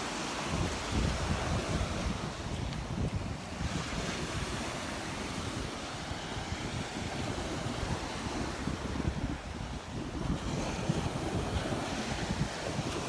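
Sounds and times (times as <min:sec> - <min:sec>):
surf washing on beach: 0:00.0 - 0:13.0
wind gusting against microphone: 0:00.0 - 0:13.0.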